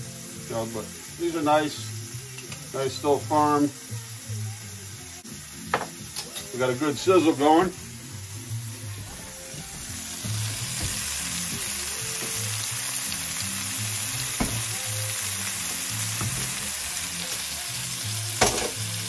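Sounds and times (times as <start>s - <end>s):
tomatoes sizzling in a skillet: 0.0s - 19.0s.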